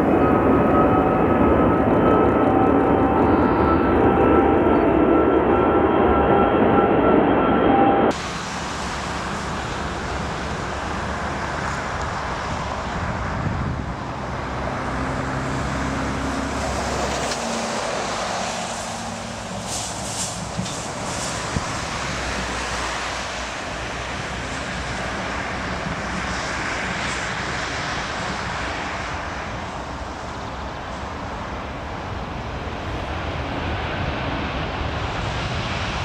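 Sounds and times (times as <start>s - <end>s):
jet engines roaring on takeoff: 0.0s - 36.0s
steady jet roar: 0.0s - 36.0s.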